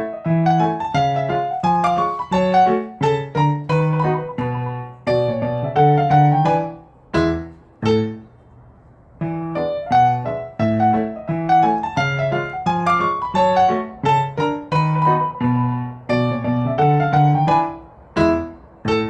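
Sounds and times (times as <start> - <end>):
piano notes and chords: 0.0 - 19.0.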